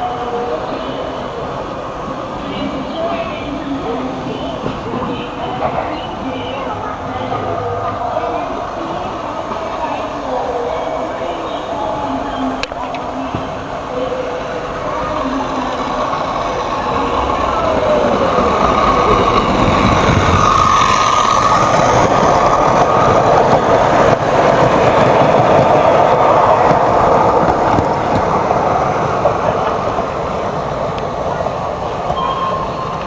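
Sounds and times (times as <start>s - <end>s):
passing train rumble and clatter: 0.0s - 33.0s.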